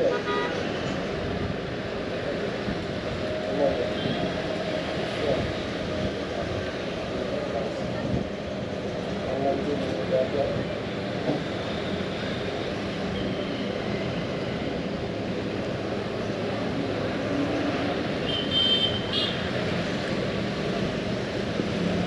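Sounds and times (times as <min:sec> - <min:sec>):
vehicle rumbling in motion: 0:00.0 - 0:22.0.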